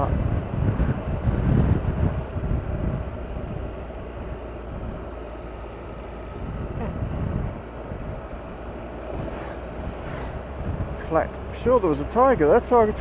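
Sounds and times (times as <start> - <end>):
wind noise on microphone: 0.0 - 13.0
motorcycle engine running: 0.1 - 13.0.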